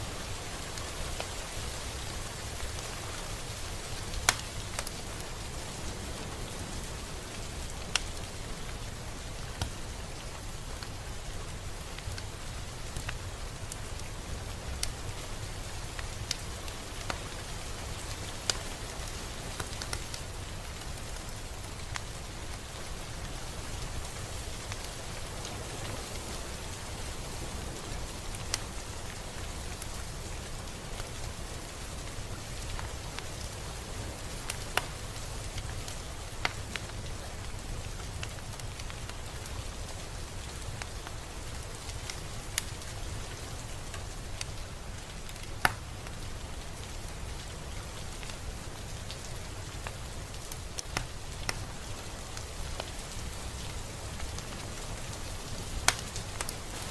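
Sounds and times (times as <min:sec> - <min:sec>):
raindrops ticking close by: 0:00.0 - 0:56.9
steady rain hiss: 0:00.0 - 0:56.9.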